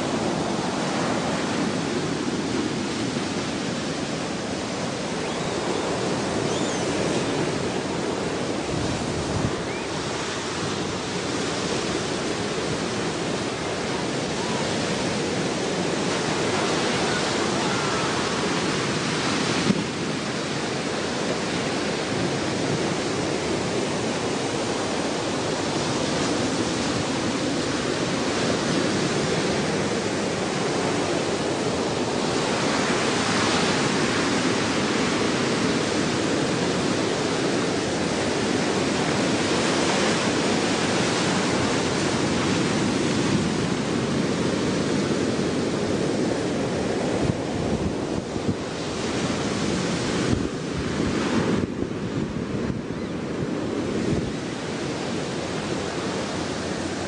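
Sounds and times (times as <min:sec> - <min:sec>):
surf: 0:00.0 - 0:57.0
wind: 0:00.0 - 0:57.0
wind buffeting the microphone: 0:00.0 - 0:57.0.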